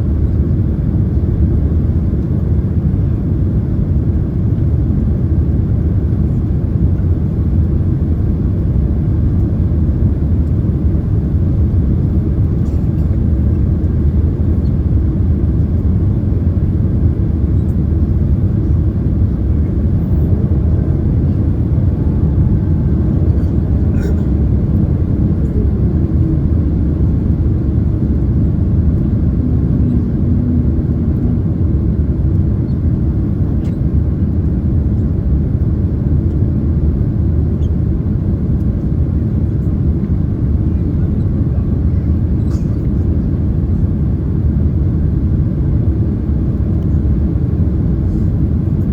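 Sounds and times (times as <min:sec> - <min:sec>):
airplane cabin engine roar: 0:00.0 - 0:48.9.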